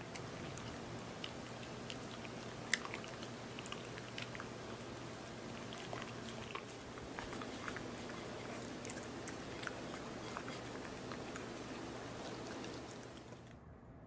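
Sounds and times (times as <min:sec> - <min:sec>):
dog chewing wetly: 0:00.0 - 0:13.5.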